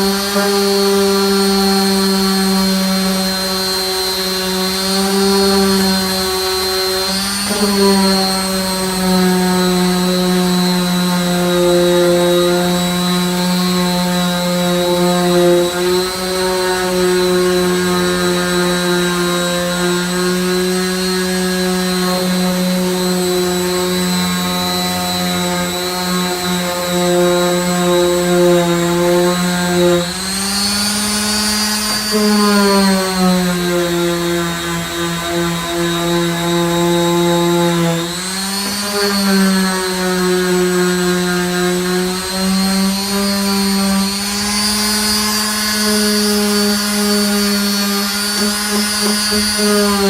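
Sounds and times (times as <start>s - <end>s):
electric sander humming: 0.0s - 50.0s.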